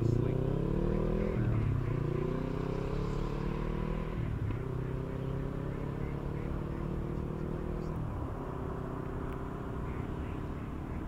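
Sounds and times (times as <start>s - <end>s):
vehicle engine accelerating: 0.0s - 11.0s.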